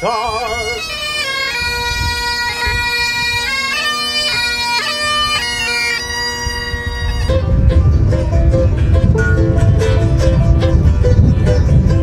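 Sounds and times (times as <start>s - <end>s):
bagpipes playing melody: 0.0s - 11.0s.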